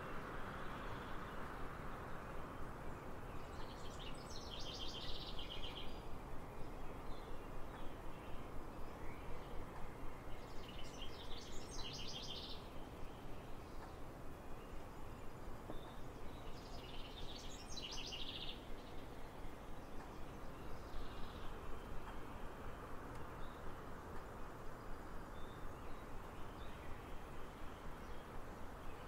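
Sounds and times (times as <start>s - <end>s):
outdoor background hiss: 0.0s - 29.0s
songbird singing: 0.0s - 29.0s.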